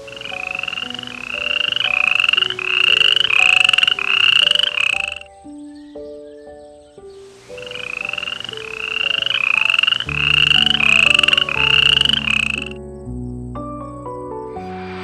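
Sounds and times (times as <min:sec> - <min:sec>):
frog trilling calls: 0:00.0 - 0:12.8
soft music: 0:00.0 - 0:15.0.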